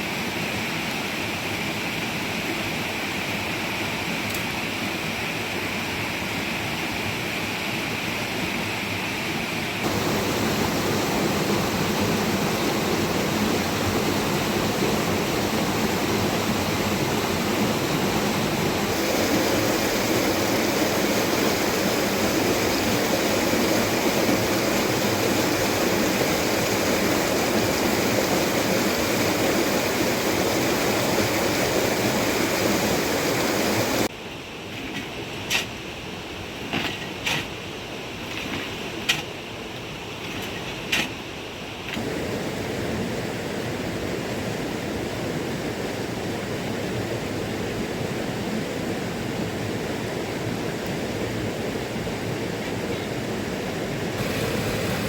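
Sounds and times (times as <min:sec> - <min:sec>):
rushing water: 0:00.0 - 0:34.1, 0:41.9 - 0:55.0.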